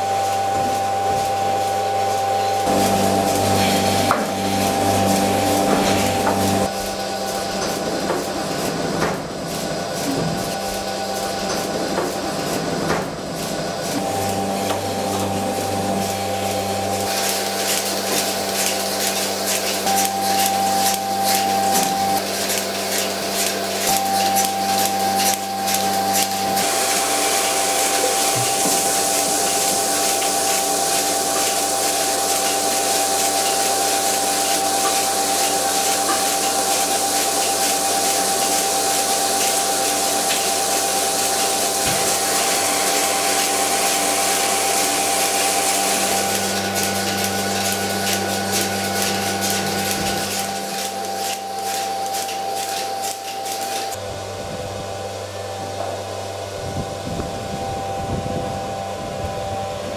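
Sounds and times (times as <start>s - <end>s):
milking machine hiss and hum: 0.0s - 59.9s.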